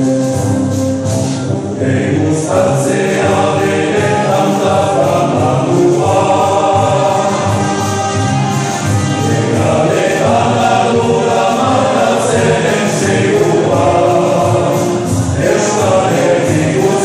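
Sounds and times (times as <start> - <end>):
dance music with group singing: 1.7 - 17.0.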